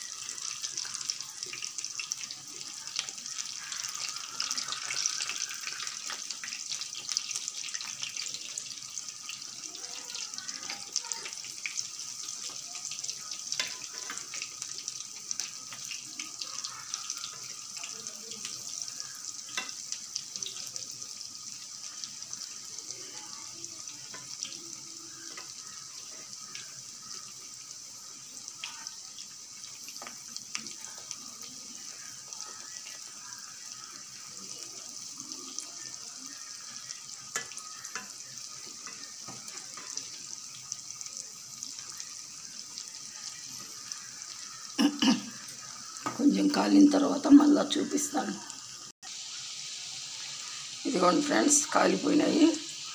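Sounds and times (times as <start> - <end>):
deep-frying sizzle with pops: 0.0 - 52.9.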